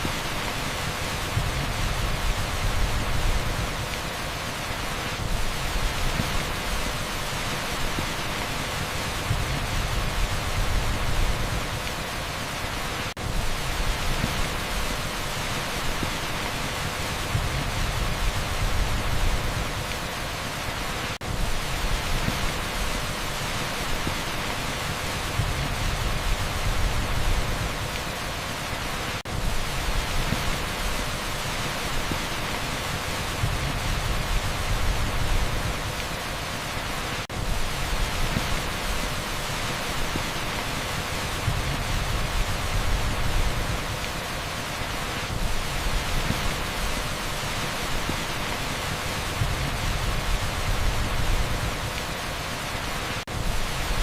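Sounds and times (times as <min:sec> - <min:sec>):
torrential rain on asphalt: 0:00.0 - 0:54.0.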